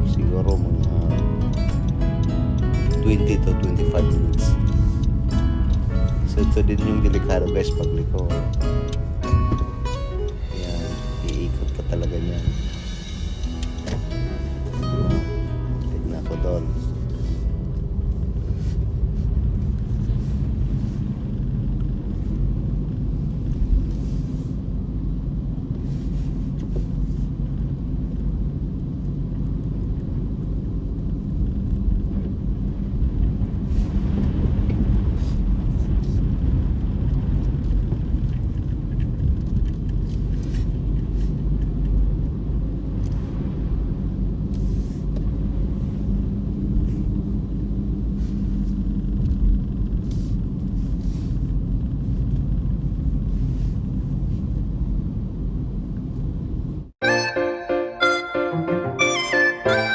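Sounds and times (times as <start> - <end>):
car engine and tyres rumbling: 0.0 - 57.1.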